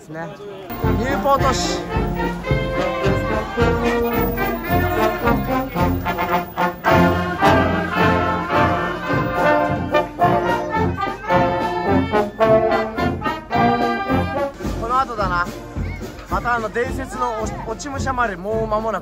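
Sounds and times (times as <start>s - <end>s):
marching brass band: 0.7s - 18.6s.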